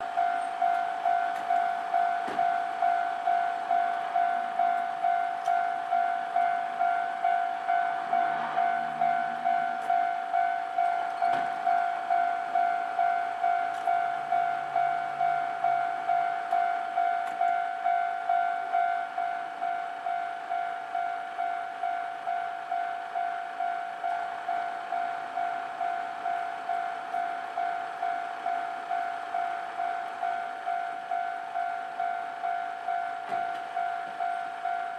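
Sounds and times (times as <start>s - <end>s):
level crossing warning bell: 0.0s - 34.9s.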